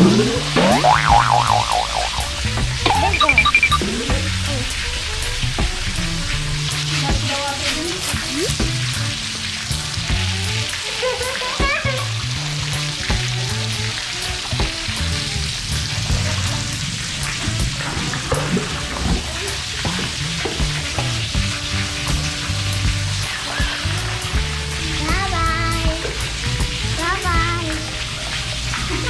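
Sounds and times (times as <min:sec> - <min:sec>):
background music with bass line: 0:00.0 - 0:29.0
crackling hiss: 0:00.0 - 0:29.0.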